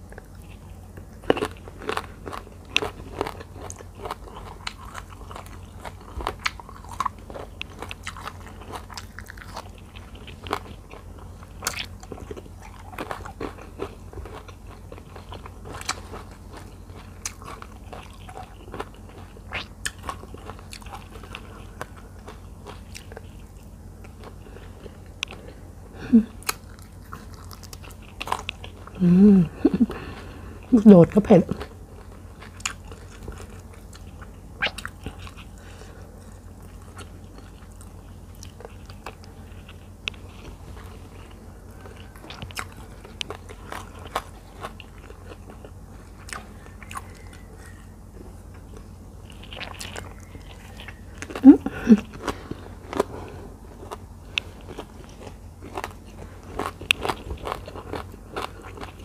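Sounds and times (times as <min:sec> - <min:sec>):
crunchy chewing and biting: 0:00.0 - 0:30.8, 0:31.5 - 0:59.0.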